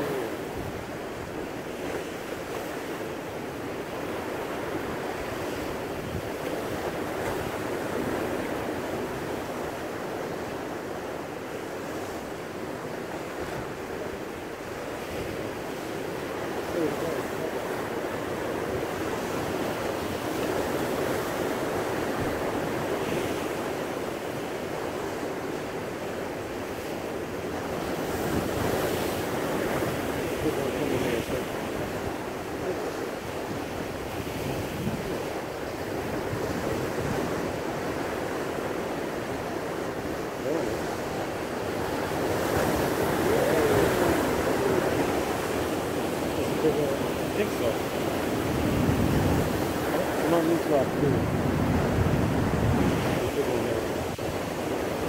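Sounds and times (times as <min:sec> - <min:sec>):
sea surf breaking over rocks: 0:00.0 - 0:55.0.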